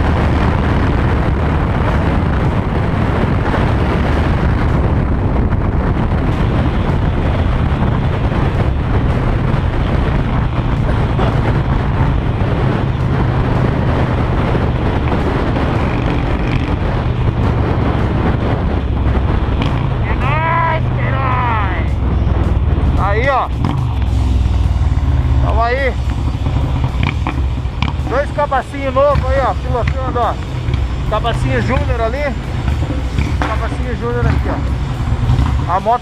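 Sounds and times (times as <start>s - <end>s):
motorcycle engine through loud exhaust: 0.0s - 36.0s
wind noise on microphone: 0.0s - 36.0s.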